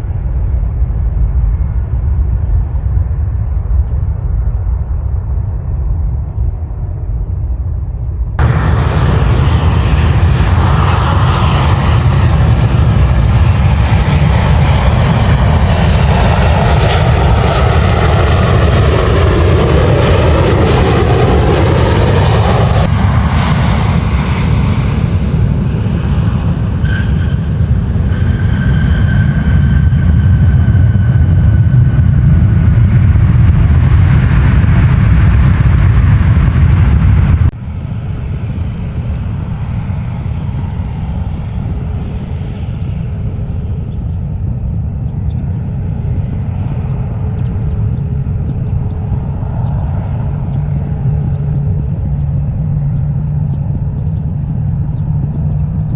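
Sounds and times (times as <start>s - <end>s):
airliner engines rumbling: 0.0s - 55.9s
high engine whine: 0.0s - 55.9s.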